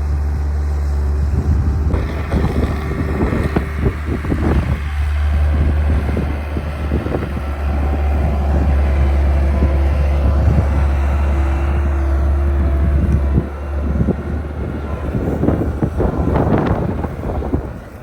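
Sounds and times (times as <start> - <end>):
skid steer engine humming: 0.0 - 18.0.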